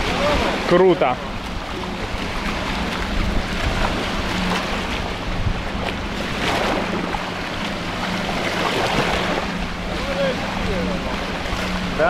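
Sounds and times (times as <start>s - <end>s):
small waves washing onto sand: 0.0s - 12.0s
wind buffeting microphone: 0.0s - 12.0s.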